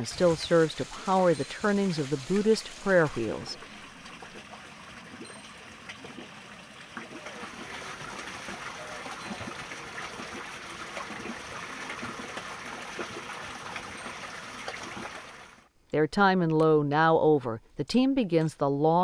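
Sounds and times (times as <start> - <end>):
running water trickling and splashing: 0.0 - 15.7.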